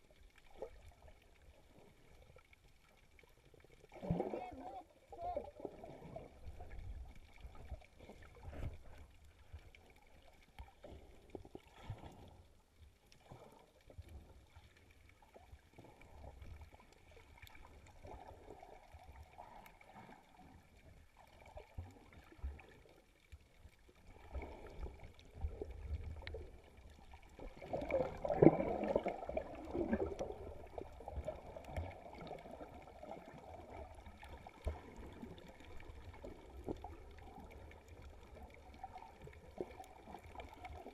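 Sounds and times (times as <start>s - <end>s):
low underwater rumble: 0.0s - 40.9s
underwater water sloshing: 0.0s - 40.9s
water rushing and bubbling: 0.0s - 40.9s.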